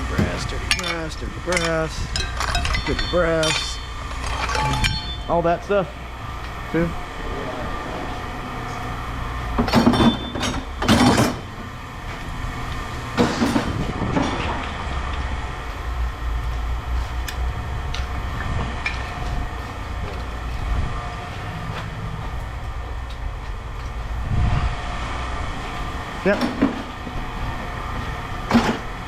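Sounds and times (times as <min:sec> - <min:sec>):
machinery humming: 0:00.0 - 0:29.0.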